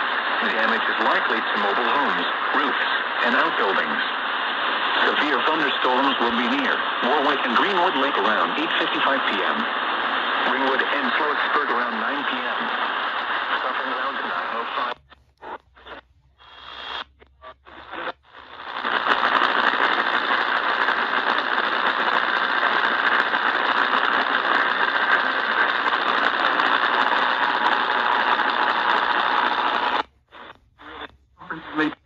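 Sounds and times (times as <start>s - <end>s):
radio static with whistling tones: 0.0s - 32.0s
radio tuning snippets: 0.0s - 32.0s.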